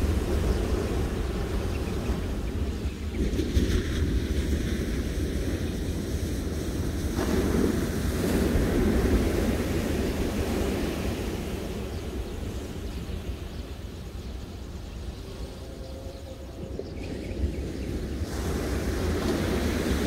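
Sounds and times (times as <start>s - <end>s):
ocean wave breaking on beach: 0.0s - 13.6s, 17.4s - 20.0s
wind rumbling on microphone: 0.0s - 20.0s.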